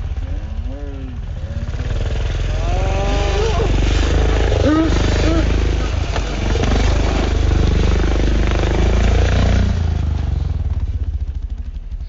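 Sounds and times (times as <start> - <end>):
pit bike engine running: 0.0 - 12.0.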